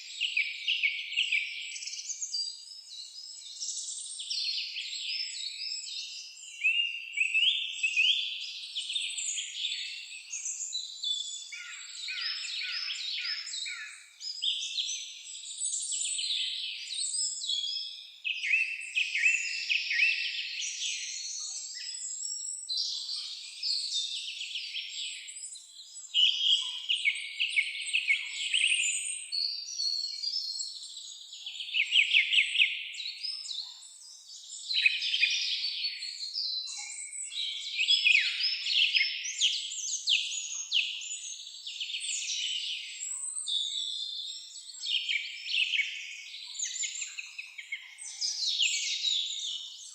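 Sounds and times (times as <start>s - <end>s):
songbirds singing: 0.0s - 49.9s.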